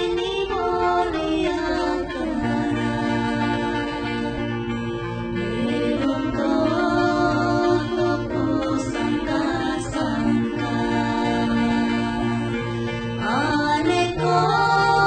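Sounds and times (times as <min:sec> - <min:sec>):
background music with singing: 0:00.0 - 0:15.0.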